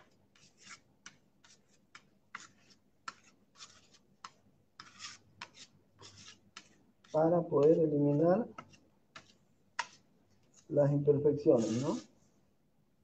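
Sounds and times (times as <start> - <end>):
trowel scraping stucco: 0.3 - 10.8, 11.4 - 12.2.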